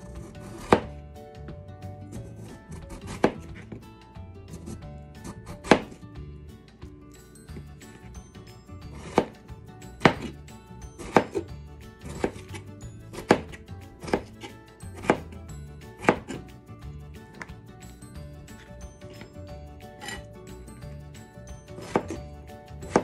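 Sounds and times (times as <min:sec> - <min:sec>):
knife slicing potatoes: 0:00.0 - 0:06.2, 0:06.8 - 0:23.0.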